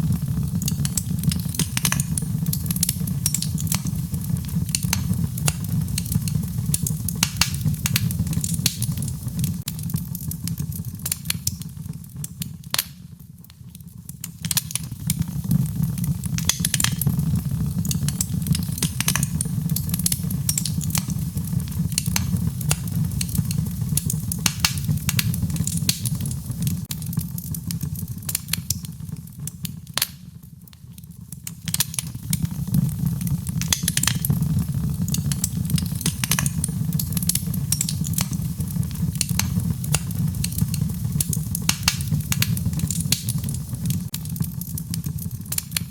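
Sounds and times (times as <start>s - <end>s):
rain pattering: 0.0s - 45.9s
wood fire crackling and popping: 0.0s - 45.9s.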